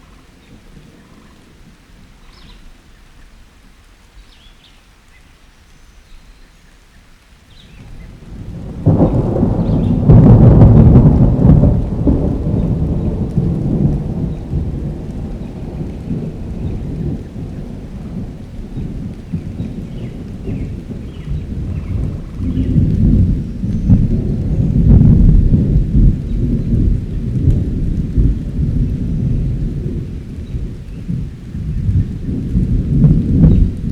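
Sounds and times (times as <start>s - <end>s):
thunderclap rolling rumble: 0.0s - 3.6s, 7.7s - 33.9s
light steady rain: 0.0s - 33.9s.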